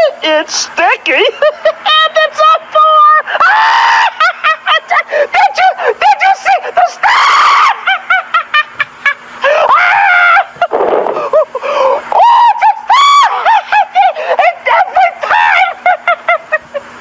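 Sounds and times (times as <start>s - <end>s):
cartoon voice laughing hysterically: 1.2s - 16.9s.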